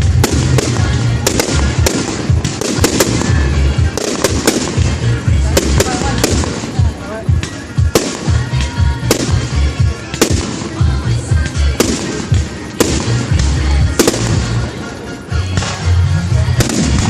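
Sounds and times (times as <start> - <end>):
fireworks crackle: 0.0 - 17.0
music with heavy bass beat: 0.0 - 17.0.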